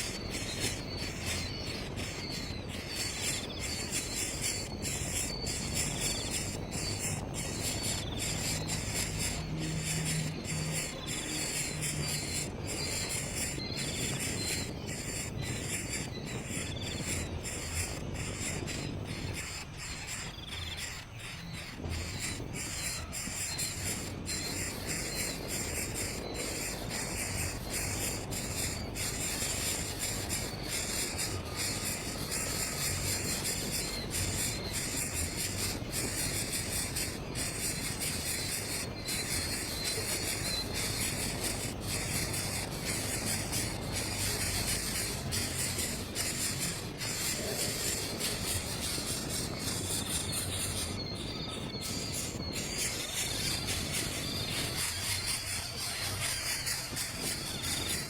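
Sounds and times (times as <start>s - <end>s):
bird chirping: 0.0s - 58.0s
insect chorus: 0.0s - 58.0s.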